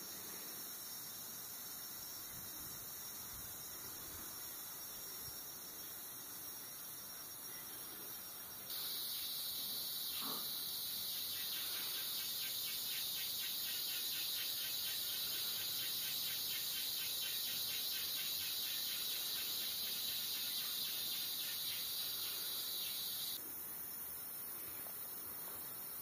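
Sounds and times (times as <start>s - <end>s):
insects droning: 0.0s - 26.0s
pulsing insect chirp: 0.0s - 26.0s.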